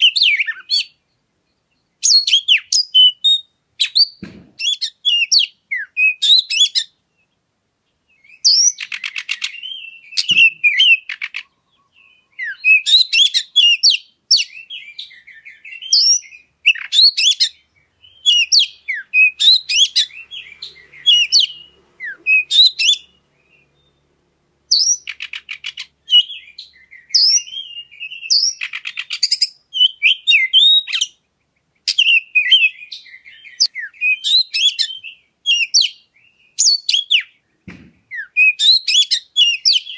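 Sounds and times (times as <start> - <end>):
bird singing whistled phrases: 0.0 - 1.0, 2.0 - 7.3, 8.1 - 24.1, 24.7 - 31.2, 31.9 - 37.4, 38.1 - 39.9.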